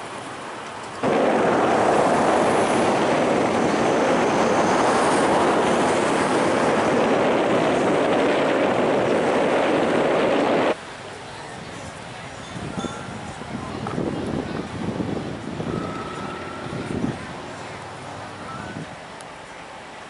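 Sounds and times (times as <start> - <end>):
wind blowing across microphone: 1.0 - 19.2.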